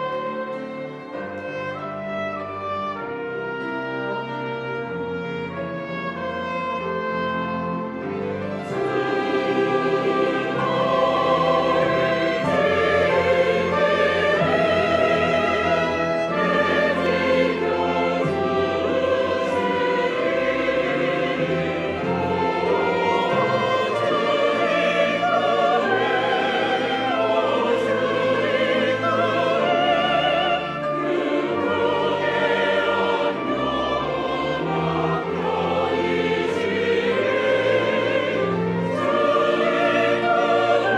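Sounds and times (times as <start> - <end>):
choir singing in harmony: 0.0 - 40.9
instrumental accompaniment: 0.0 - 40.9.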